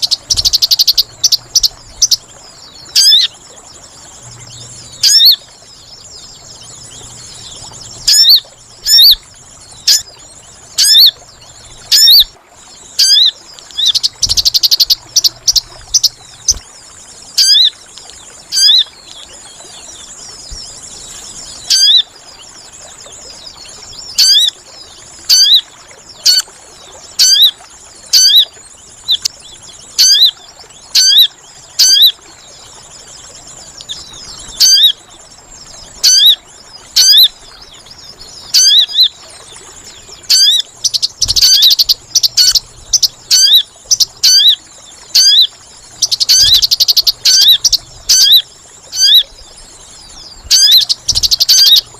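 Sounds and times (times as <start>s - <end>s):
bird calls: 0.0s - 51.9s.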